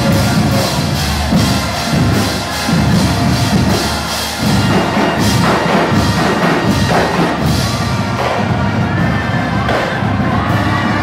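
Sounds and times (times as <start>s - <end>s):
crowd singing together: 0.0s - 11.0s.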